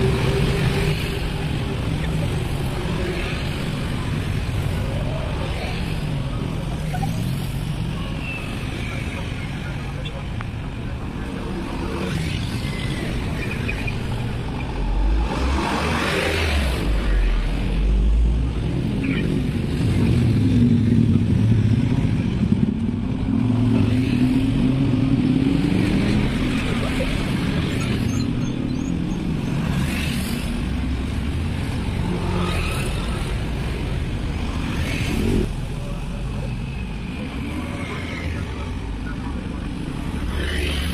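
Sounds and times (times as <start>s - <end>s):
cars and motorbikes driving past: 0.0s - 40.9s.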